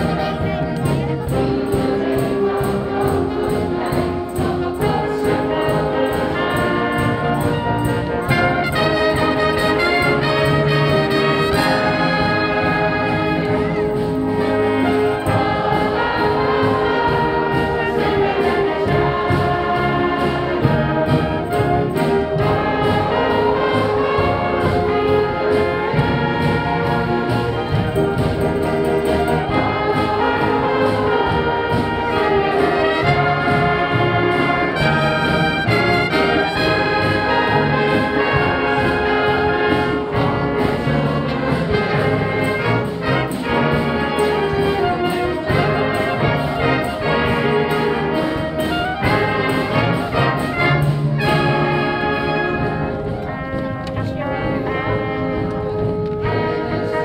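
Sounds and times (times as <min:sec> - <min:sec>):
brass and wind band playing: 0:00.0 - 0:57.0.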